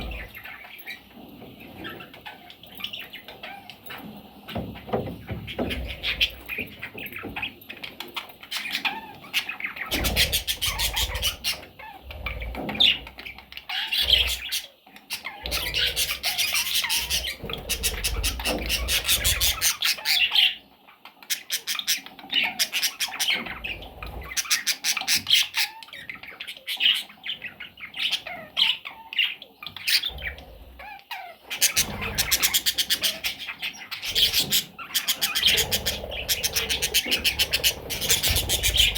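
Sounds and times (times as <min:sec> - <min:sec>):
budgerigars chirping: 0:00.0 - 0:01.1, 0:01.8 - 0:38.9.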